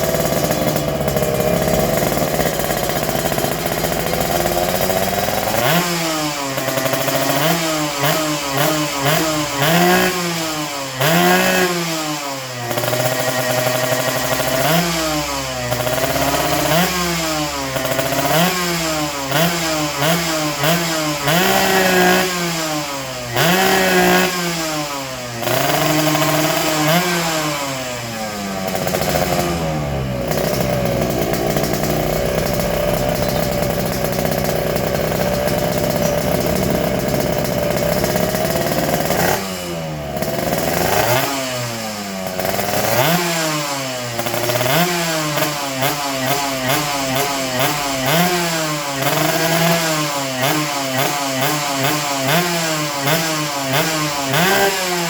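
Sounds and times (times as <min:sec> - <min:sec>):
two-stroke engine revving: 0:00.0 - 0:55.0.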